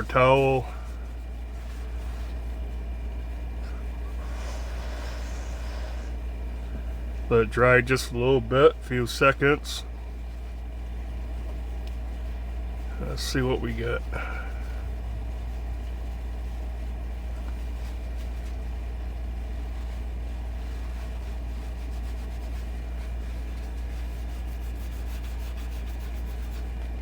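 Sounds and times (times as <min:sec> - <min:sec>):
steady low background hum: 0:00.0 - 0:27.0.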